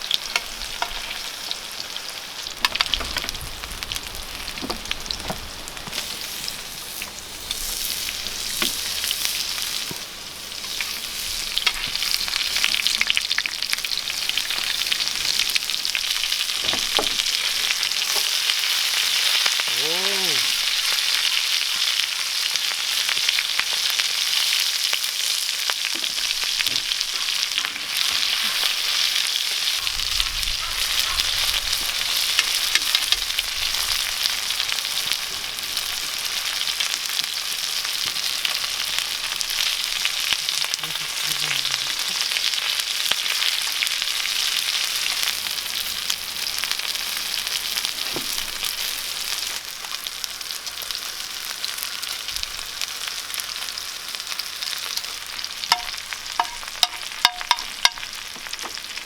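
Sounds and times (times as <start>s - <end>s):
meat sizzling on a griddle: 0.0s - 59.0s.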